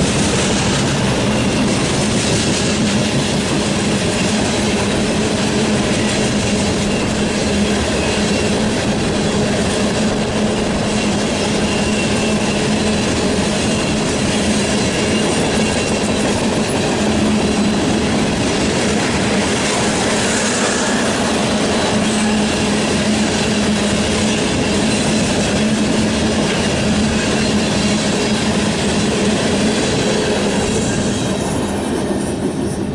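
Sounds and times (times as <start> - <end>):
freight train wheels clattering: 0.0 - 32.9.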